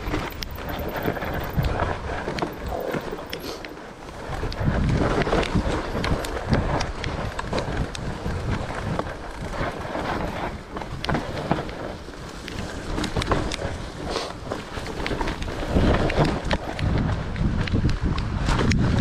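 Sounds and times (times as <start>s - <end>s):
bike rattling over bumps: 0.0s - 19.0s
bike tyres rumbling over ground: 0.0s - 19.0s
wind on microphone: 0.0s - 19.0s.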